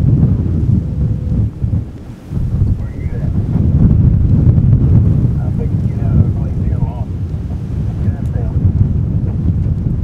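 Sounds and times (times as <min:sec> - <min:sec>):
storm wind buffeting microphone: 0:00.0 - 0:10.0.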